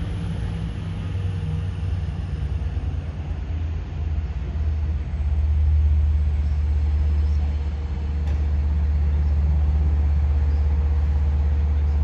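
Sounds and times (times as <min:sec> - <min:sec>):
train approaching rumble: 0:00.0 - 0:12.0.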